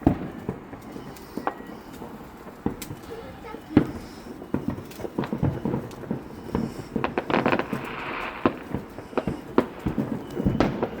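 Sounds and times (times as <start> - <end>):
fireworks hissing: 0.0 - 11.0
fireworks popping and banging: 0.0 - 11.0.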